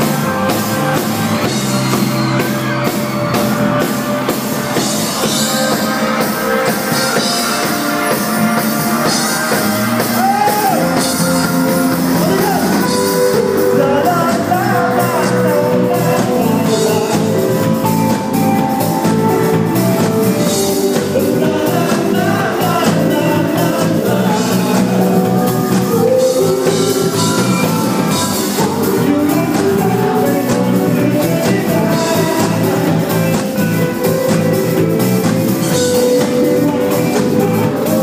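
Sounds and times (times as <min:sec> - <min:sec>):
live band music: 0:00.0 - 0:38.0
person singing: 0:00.0 - 0:38.0.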